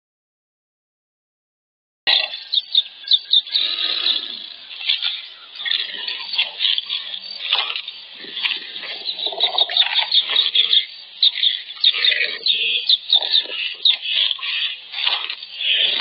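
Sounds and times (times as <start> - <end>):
high chirping animal calls: 2.1 - 16.0.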